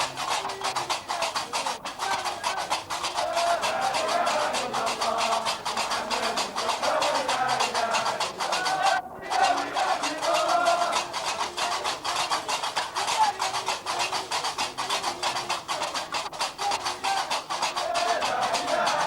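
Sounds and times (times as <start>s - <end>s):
metal castanets clattering: 0.0s - 19.0s
voices singing: 0.0s - 19.0s.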